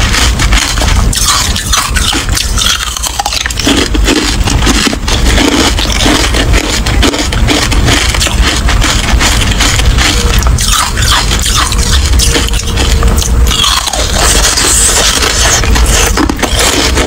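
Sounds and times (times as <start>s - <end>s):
ice crunching in mouth: 0.0s - 17.0s.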